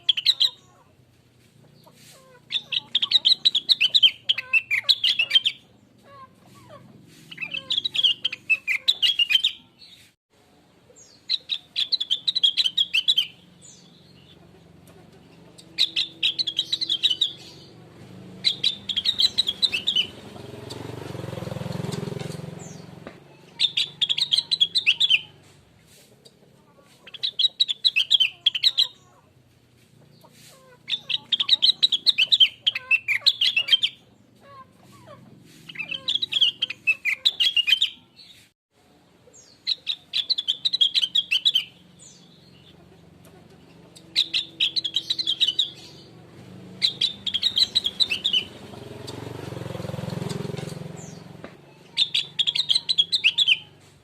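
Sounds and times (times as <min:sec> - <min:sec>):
bird high chirping song: 0:00.0 - 0:00.9, 0:01.7 - 0:10.1, 0:10.9 - 0:25.5, 0:26.2 - 0:38.5, 0:39.2 - 0:54.0.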